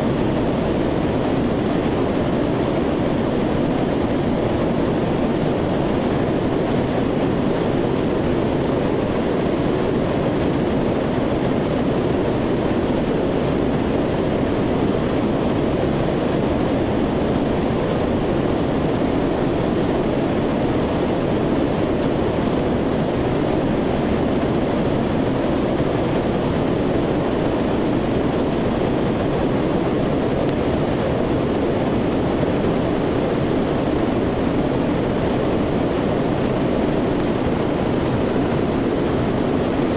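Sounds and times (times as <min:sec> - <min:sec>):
turboprop aircraft cabin drone: 0:00.0 - 0:39.9.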